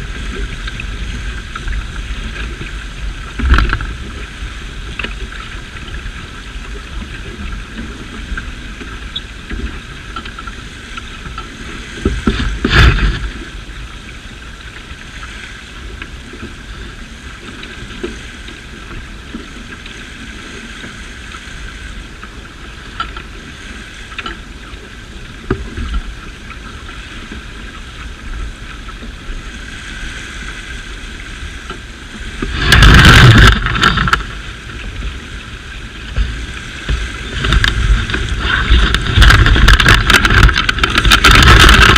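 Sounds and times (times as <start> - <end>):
water rushing past hull: 0.0 - 41.9
wind buffeting microphone: 0.0 - 41.9.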